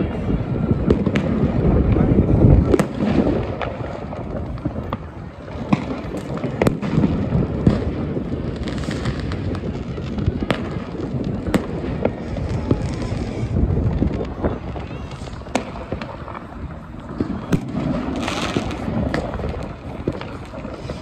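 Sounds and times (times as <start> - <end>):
firework bangs: 0.0 - 21.0
fireworks crackling and rumbling: 0.0 - 21.0.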